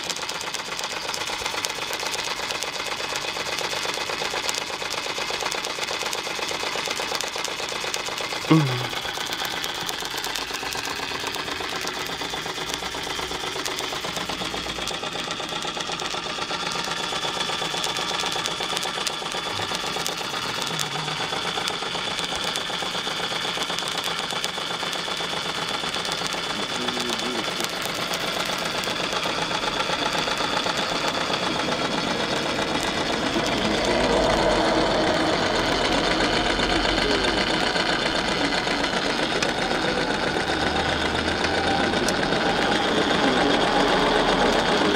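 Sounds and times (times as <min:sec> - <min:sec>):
toy steam engine running: 0:00.0 - 0:44.9.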